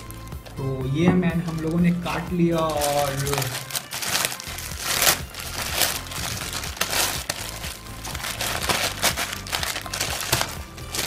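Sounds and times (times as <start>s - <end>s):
plastic mailer and bubble wrap crinkling: 0.0s - 11.0s.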